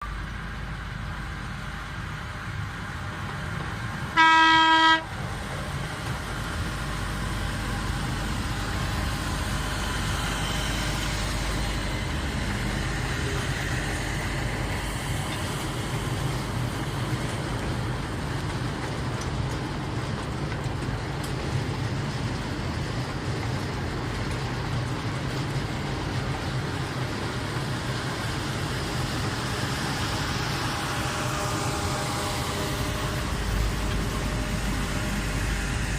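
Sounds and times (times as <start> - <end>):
ride train engine rumbling: 0.0 - 35.9.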